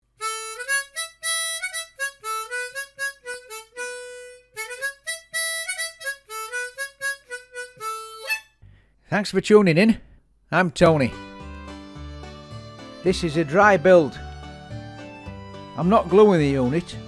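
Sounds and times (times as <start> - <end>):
solo instrumental melody: 0.1 - 8.6, 10.8 - 17.0.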